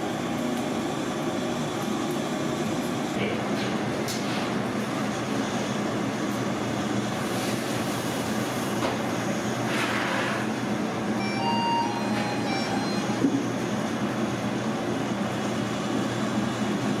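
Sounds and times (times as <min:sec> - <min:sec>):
mechanical hum with rushing noise: 0:00.0 - 0:17.0.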